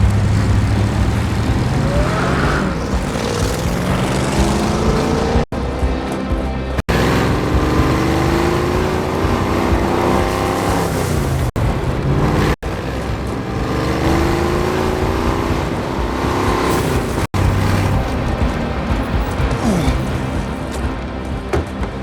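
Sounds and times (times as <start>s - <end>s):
loud vehicle engine running: 0.0s - 22.0s.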